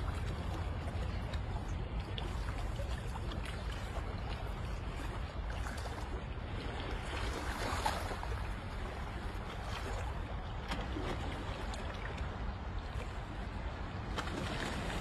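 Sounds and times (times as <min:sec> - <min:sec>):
small water splashes: 0:00.0 - 0:15.0
water swishing along boat hull: 0:00.0 - 0:15.0.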